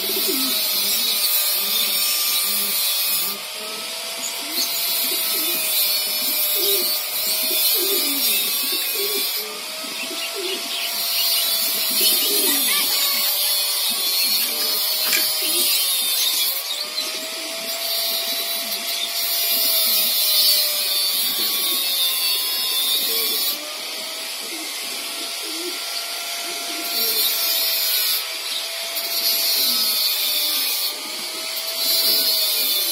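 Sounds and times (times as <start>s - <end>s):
pigeons cooing: 0.0s - 32.9s.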